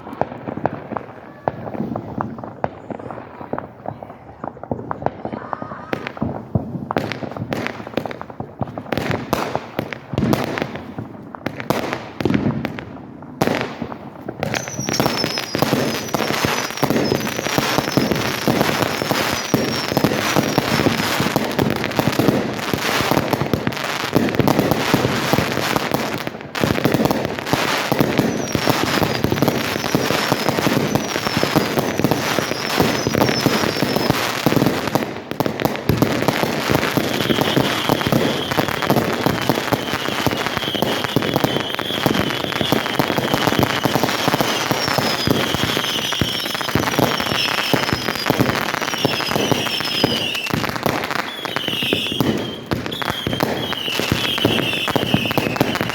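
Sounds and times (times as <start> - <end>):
falling whistles of fireworks: 0.0 - 55.9
fireworks bangs and crackle: 0.0 - 55.9.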